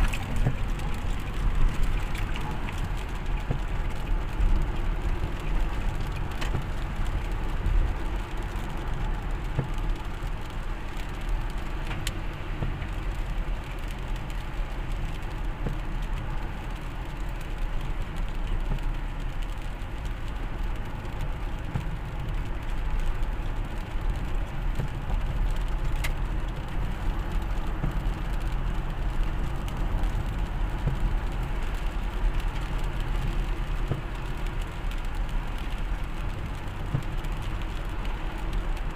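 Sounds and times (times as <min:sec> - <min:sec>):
road rumble: 0:00.0 - 0:38.9
vehicle engine hum: 0:00.0 - 0:38.9.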